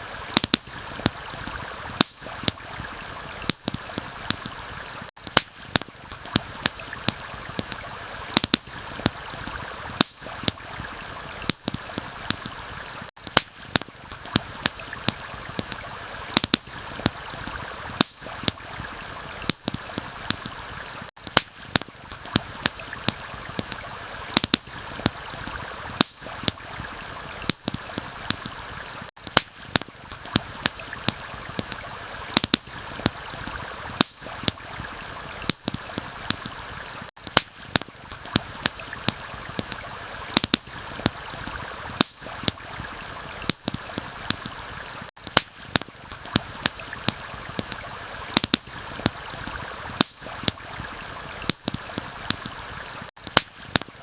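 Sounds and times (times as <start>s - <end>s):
stream rushing: 0.0s - 53.1s
campfire crackling: 0.0s - 54.0s.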